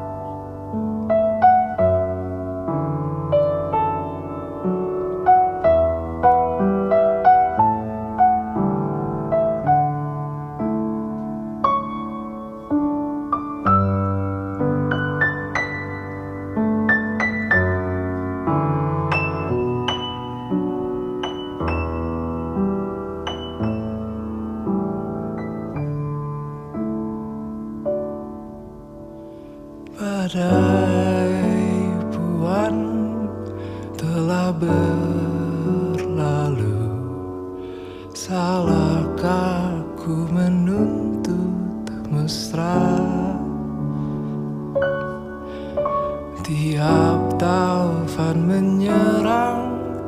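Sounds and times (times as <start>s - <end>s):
slow solo piano: 0.0s - 50.0s.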